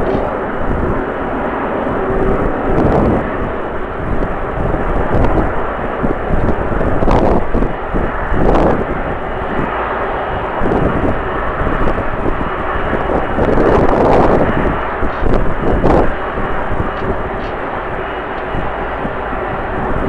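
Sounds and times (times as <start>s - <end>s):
jet engines roaring: 0.0s - 20.0s
wind buffeting microphone: 0.0s - 20.0s.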